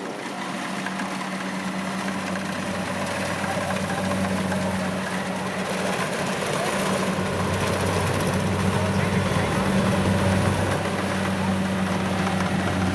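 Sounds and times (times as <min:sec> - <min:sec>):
combine harvester engine humming: 0:00.0 - 0:12.9.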